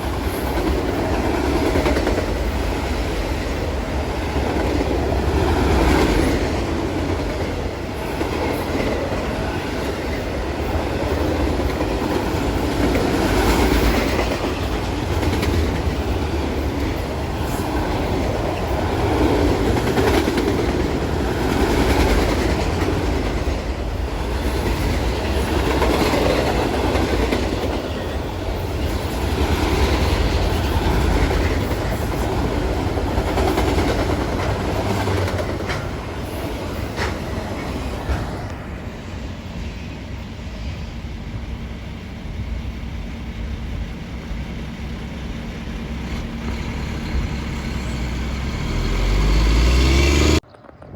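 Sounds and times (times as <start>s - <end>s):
train wheels clacking over rails: 0.0s - 50.9s.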